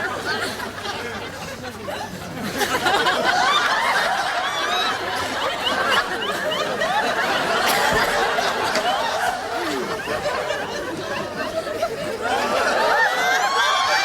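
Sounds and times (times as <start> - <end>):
party crowd chattering and laughing: 0.0 - 14.0.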